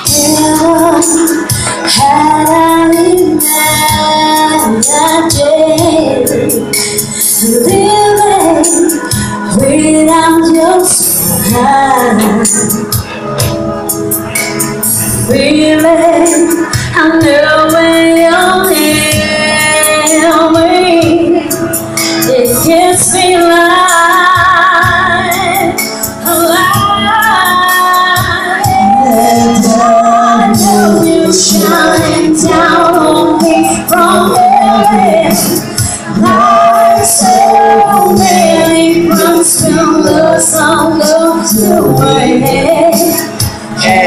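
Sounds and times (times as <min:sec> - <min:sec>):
woman singing pop ballad: 0:00.0 - 0:44.0.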